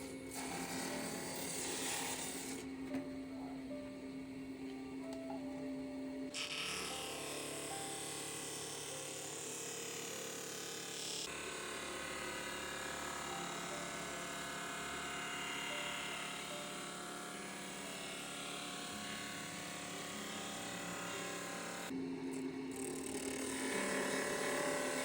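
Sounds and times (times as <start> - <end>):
electric motor humming: 3.6 - 25.0.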